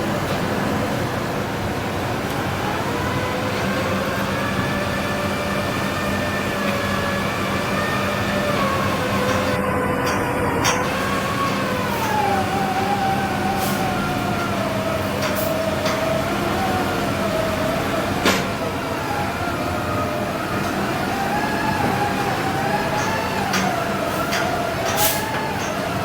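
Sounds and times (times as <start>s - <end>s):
engine and hydraulic drone: 0.0s - 26.0s.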